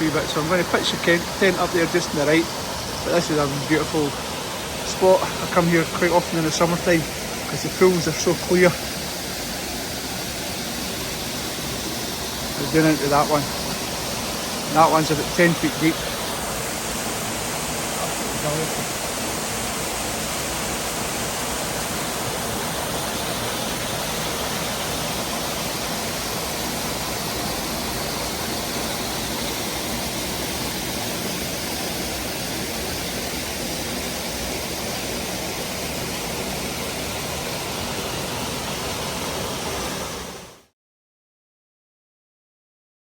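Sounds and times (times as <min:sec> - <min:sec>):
waterfall rushing: 0:00.0 - 0:40.6.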